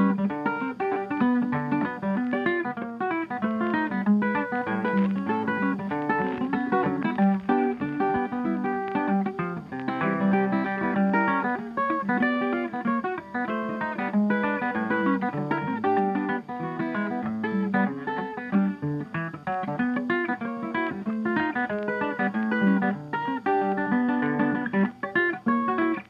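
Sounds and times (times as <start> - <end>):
fast plucked acoustic guitar: 0.0 - 26.0.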